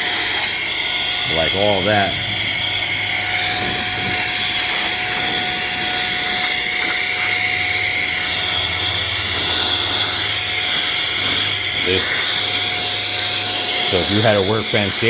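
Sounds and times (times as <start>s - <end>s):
air duster motor whine: 0.0s - 15.0s.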